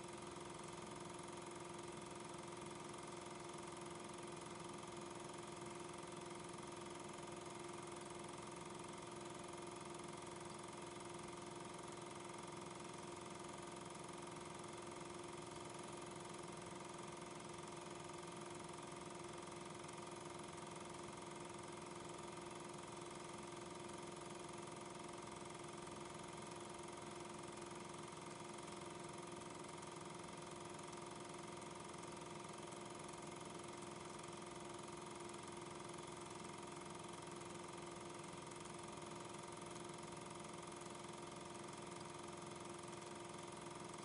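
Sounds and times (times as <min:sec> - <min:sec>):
steady hum with hiss: 0:00.0 - 0:44.0.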